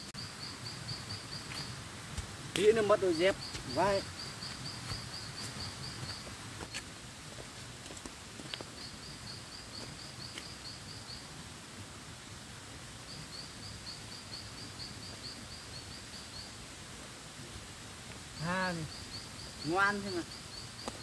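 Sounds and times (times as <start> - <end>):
faint outdoor background: 0.0 - 21.0.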